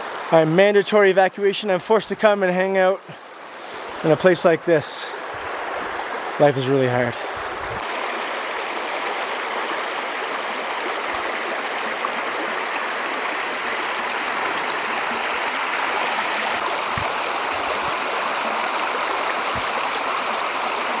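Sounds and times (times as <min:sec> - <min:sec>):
water rushing over rocks: 0:03.4 - 0:21.0.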